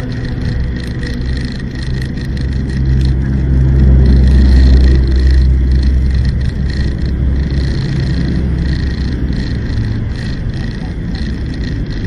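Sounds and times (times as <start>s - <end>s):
vehicle engine drone and road noise: 0.0s - 12.0s.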